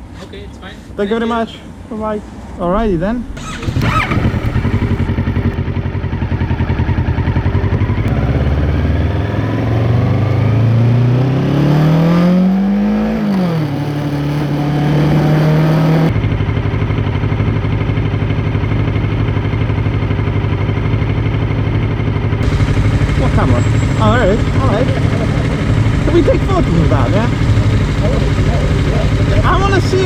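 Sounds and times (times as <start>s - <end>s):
motorcycle engine revving: 3.2s - 30.0s.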